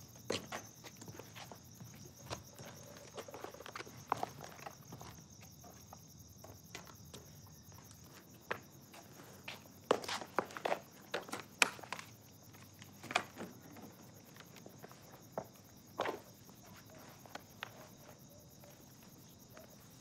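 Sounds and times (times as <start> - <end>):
crickets chirping: 0.0 - 20.0
footsteps: 0.1 - 18.2.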